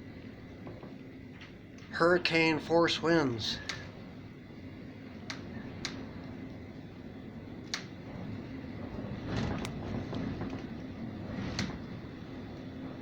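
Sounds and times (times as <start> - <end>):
wind roaring: 0.0 - 13.0.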